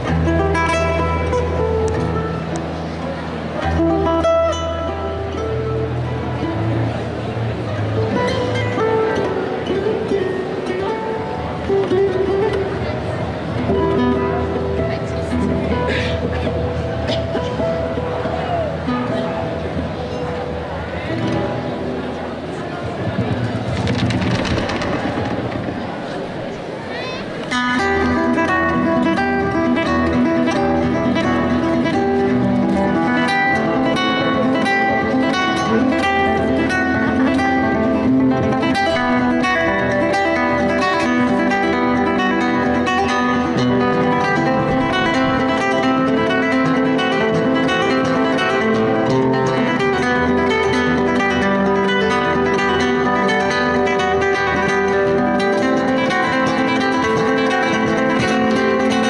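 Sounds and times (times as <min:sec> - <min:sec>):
acoustic guitar music: 0:00.0 - 0:59.0.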